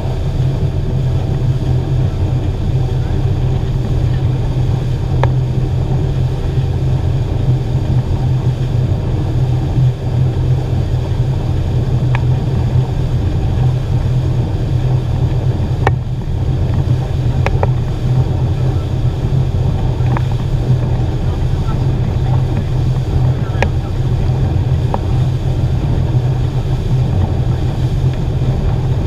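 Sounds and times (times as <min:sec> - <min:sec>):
outboard motor running: 0:00.0 - 0:29.0
rush of boat wake: 0:00.0 - 0:29.0
wind on microphone: 0:00.0 - 0:29.0.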